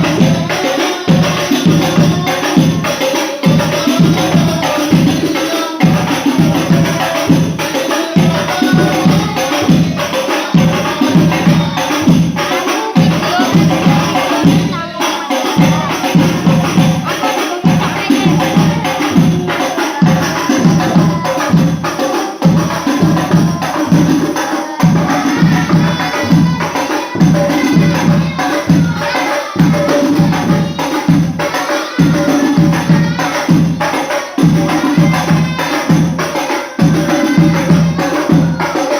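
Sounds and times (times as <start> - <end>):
frame drums with jingles: 0.0 - 38.9
person singing: 0.0 - 38.9.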